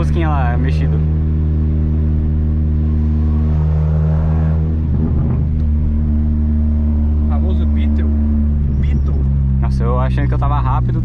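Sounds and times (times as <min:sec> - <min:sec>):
low car engine drone: 0:00.0 - 0:11.0.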